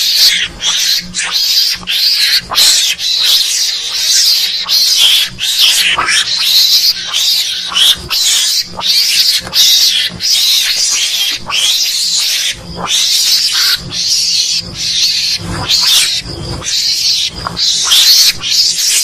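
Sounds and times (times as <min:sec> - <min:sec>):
mongoose hissing chatters: 0:00.0 - 0:19.0.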